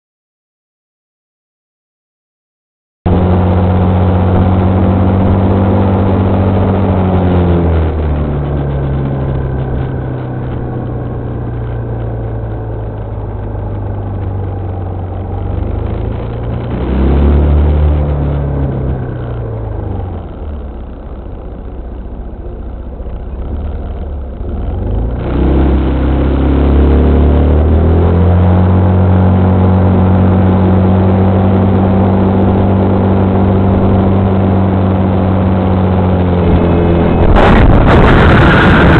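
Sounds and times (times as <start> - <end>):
car engine running: 3.1 - 38.9.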